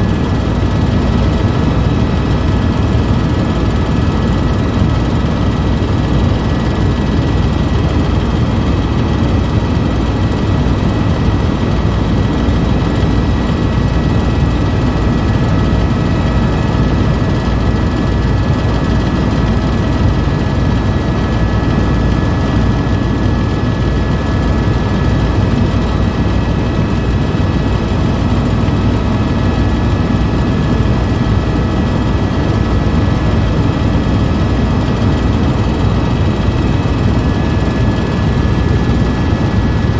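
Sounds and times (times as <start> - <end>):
helicopter cabin drone: 0.0 - 39.9.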